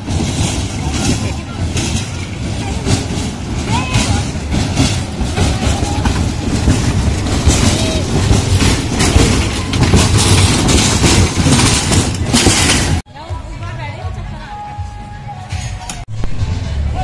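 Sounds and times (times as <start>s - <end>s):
ride cars rumbling and rattling: 0.0s - 17.0s.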